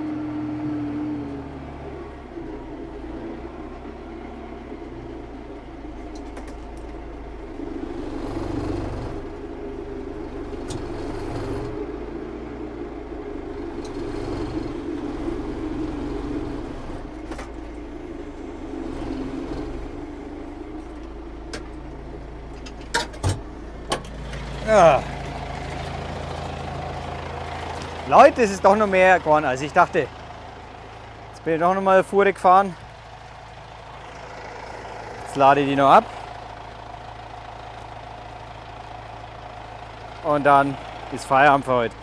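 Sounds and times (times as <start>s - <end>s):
tractor engine running: 0.0s - 42.0s.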